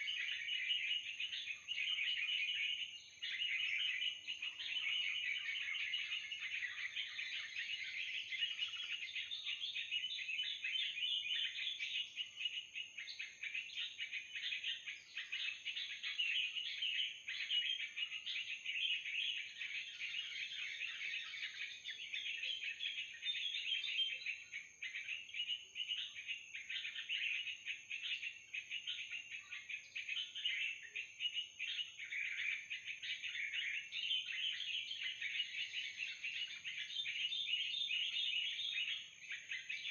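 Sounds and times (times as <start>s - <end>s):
bulbul birds chattering: 0.0s - 39.9s.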